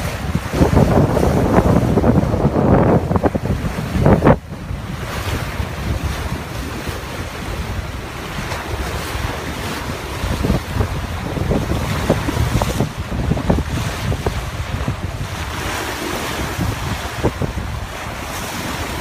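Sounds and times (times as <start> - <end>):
choppy waves against a hull: 0.0 - 19.0
strong wind buffeting microphone: 0.0 - 19.0.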